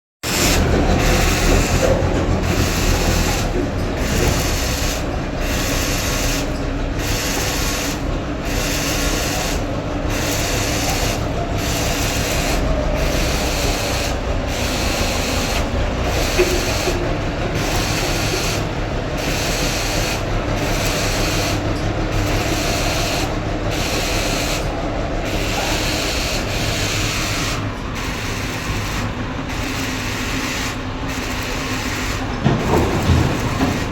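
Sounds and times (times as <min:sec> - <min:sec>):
diesel engine rumbling: 0:00.2 - 0:33.9.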